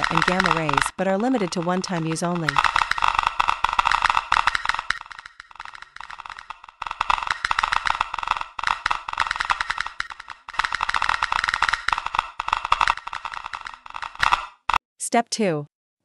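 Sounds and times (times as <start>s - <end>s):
geiger counter clicking: 0.0s - 14.8s.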